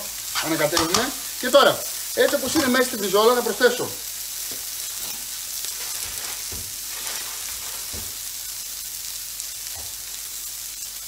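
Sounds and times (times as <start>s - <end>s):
food sizzling in pans: 0.0s - 11.0s.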